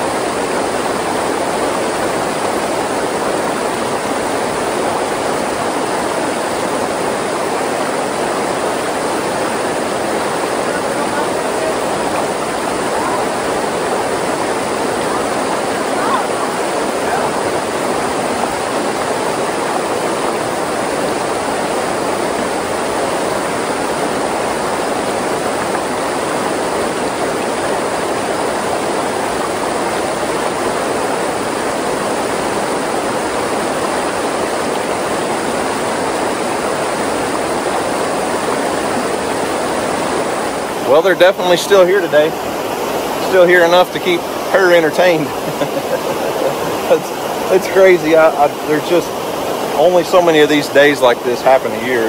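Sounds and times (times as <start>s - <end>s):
water rushing over rocks: 0.0s - 52.0s.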